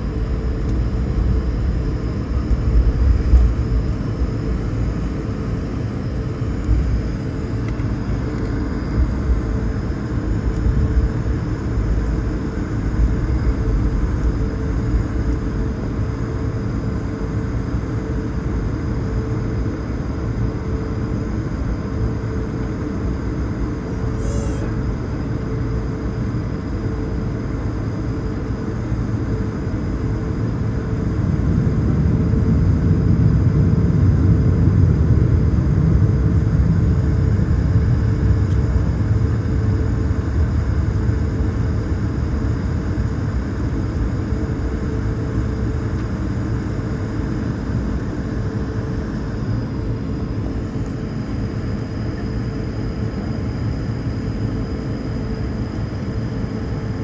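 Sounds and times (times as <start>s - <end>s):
faint high whine: 0.0s - 57.0s
jet engine hum: 0.0s - 57.0s.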